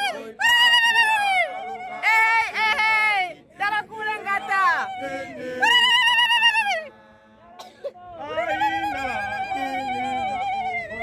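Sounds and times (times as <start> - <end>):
voices singing together: 0.0 - 11.0.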